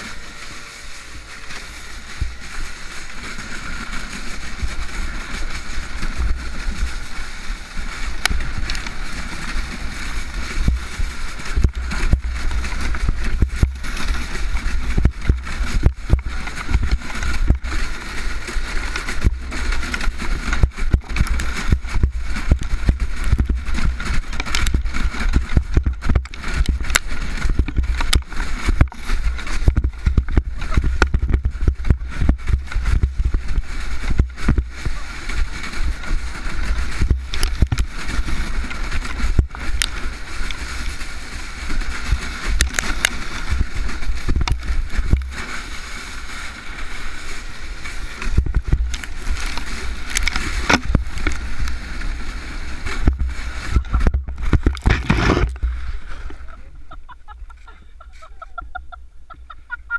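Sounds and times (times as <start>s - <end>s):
sled jolting over snow: 0.0s - 59.9s
snowmobile engine running: 0.0s - 59.9s
wind rumble on microphone: 0.0s - 59.9s.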